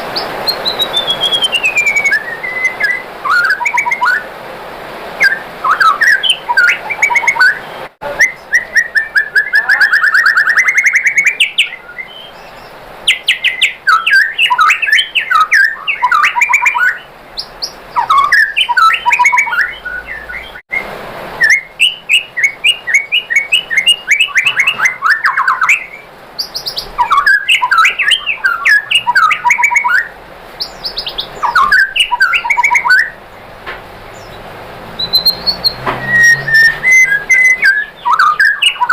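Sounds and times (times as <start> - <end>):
bird singing trills and whistles: 0.0 - 4.3, 5.2 - 33.5, 34.1 - 38.9.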